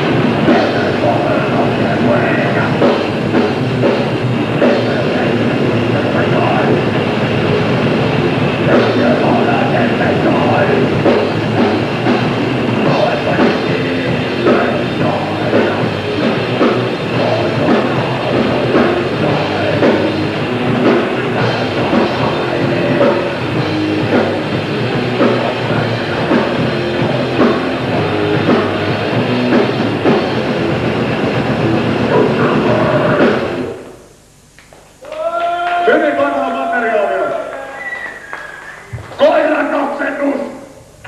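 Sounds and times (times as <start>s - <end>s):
rapid drumming: 0.0s - 33.8s
distorted guitars and bass: 0.0s - 41.0s.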